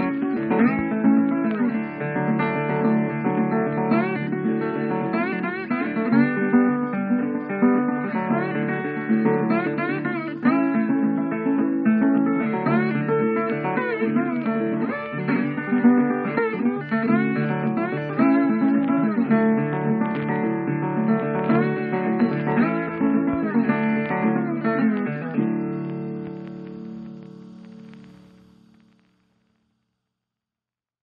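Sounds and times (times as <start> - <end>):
blues guitar music: 0.0 - 29.3.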